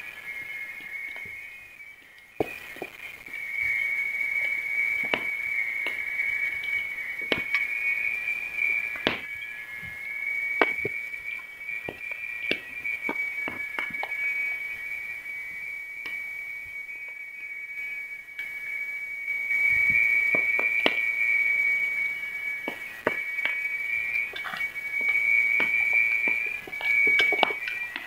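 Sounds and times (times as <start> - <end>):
fire crackling and popping: 0.0 - 28.0
high-pitched whistle from fire: 0.0 - 28.0.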